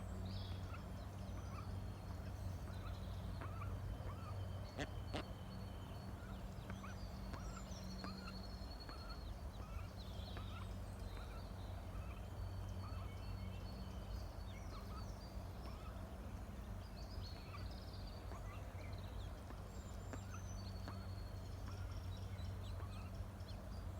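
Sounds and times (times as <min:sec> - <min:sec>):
ducklings peeping: 0:01.4 - 0:05.4, 0:06.0 - 0:13.2, 0:14.0 - 0:23.7.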